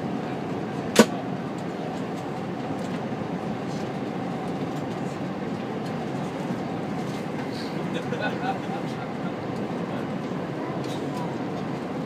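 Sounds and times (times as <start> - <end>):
train cabin rumble: 0.0 - 12.0.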